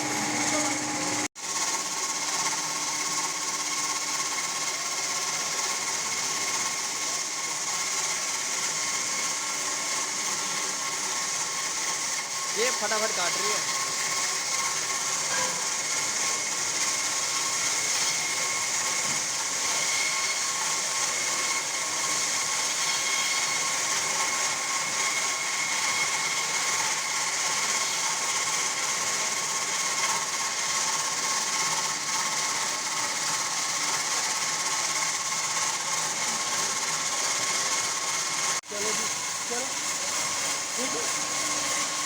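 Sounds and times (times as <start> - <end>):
wire saw cutting concrete: 0.0 - 42.0.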